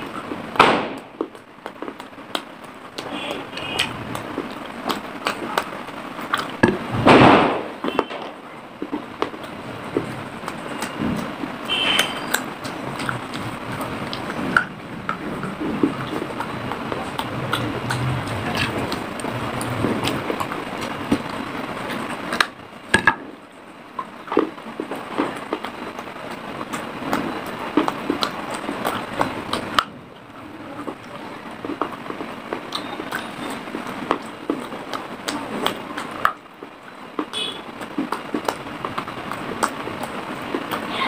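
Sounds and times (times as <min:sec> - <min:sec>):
crunching and chewing clay: 0:00.0 - 0:07.7, 0:08.8 - 0:40.9.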